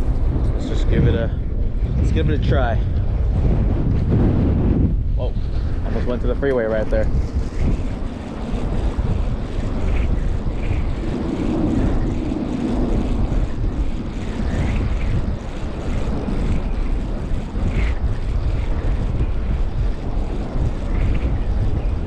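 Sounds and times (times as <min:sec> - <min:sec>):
freeway traffic rumble: 0:00.0 - 0:22.0
wind buffeting microphone: 0:00.0 - 0:22.0.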